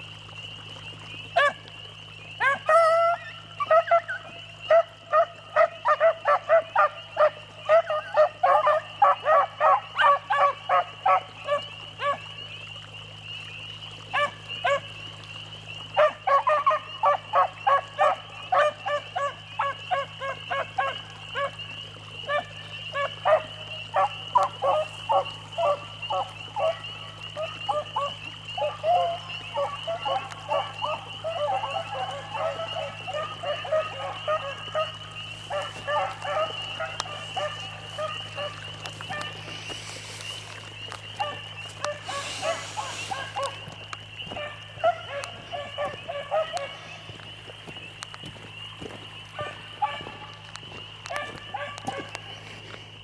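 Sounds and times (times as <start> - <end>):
beagles baying: 2.4 - 12.3, 15.9 - 48.0, 48.8 - 52.7.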